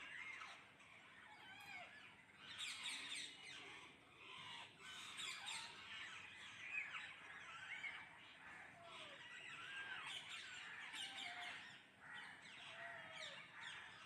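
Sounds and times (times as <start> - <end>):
parrots squawking: 0.1 - 14.0.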